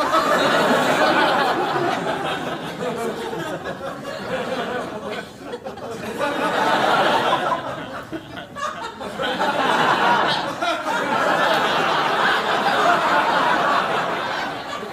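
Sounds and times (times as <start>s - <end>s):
studio audience laughing: 0.0s - 14.9s.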